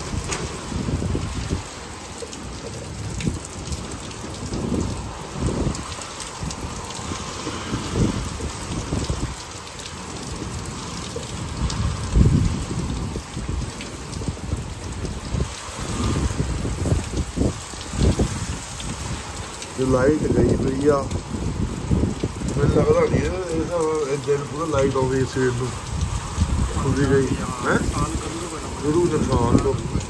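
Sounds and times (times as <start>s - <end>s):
heavy rain pouring: 0.0s - 30.0s
strong wind gusts: 0.0s - 30.0s.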